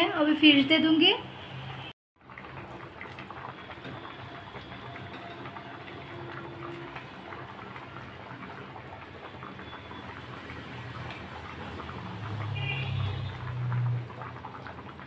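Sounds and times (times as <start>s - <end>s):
curry bubbling and popping: 2.2s - 15.0s.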